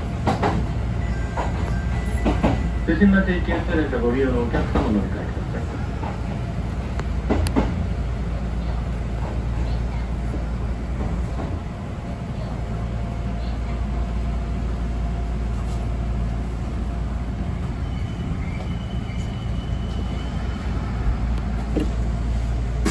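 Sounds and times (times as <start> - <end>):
train rumble: 0.0 - 22.9.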